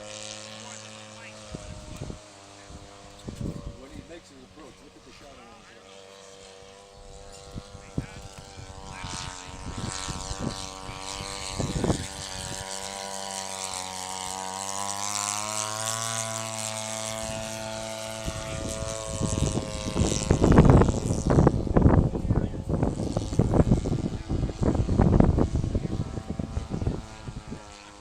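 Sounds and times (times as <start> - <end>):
model airplane engine: 0.0 - 28.0.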